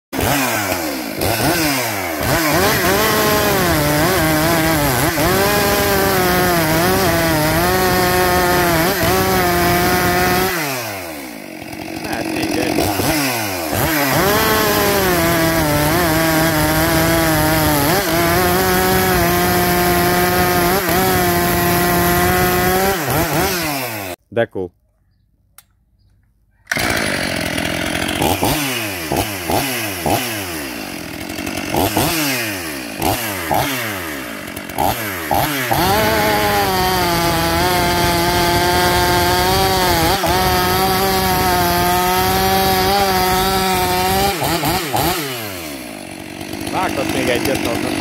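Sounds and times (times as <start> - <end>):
chainsaw cutting log: 0.1 - 24.2, 26.7 - 48.0.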